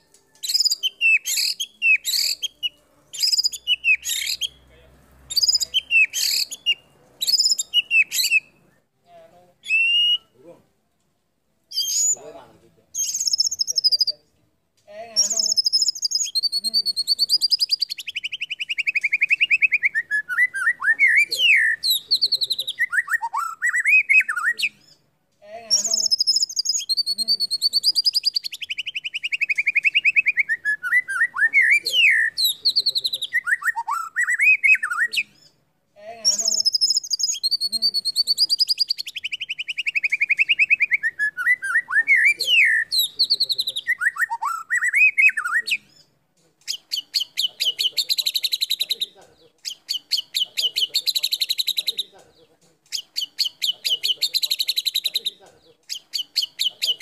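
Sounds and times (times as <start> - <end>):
bird song with trills and whistles: 0.0 - 4.7, 5.3 - 9.0, 9.6 - 10.4, 11.7 - 12.4, 13.0 - 14.2, 15.2 - 25.0, 25.7 - 35.6, 36.2 - 46.1, 46.7 - 52.2, 52.9 - 57.0.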